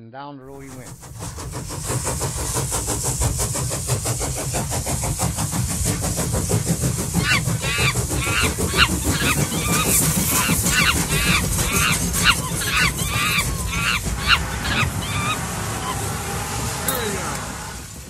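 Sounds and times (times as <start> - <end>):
steam locomotive chuffing: 0.5 - 18.0
train rumble and hiss: 0.5 - 18.0.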